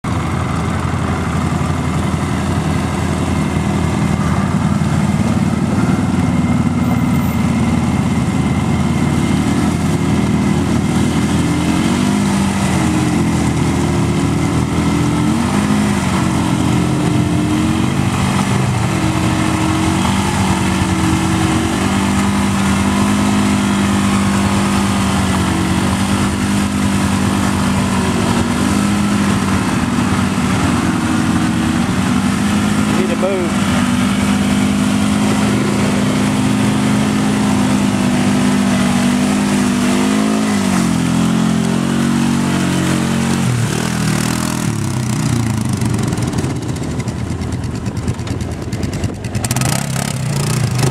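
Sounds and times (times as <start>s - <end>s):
atv engine running: 0.0s - 50.9s.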